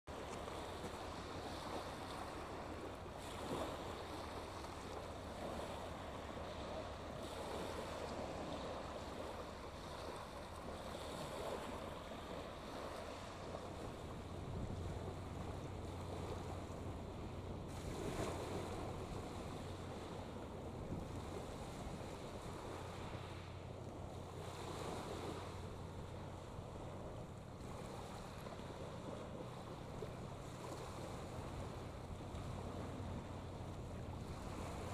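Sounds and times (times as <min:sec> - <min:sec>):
small waves on shingle beach: 0:00.1 - 0:34.9
wind on microphone: 0:00.1 - 0:34.9.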